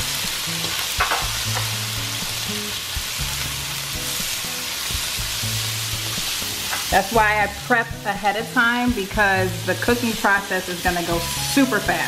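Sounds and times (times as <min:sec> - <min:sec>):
shrimp and vegetables sizzling in oil: 0:00.0 - 0:12.0.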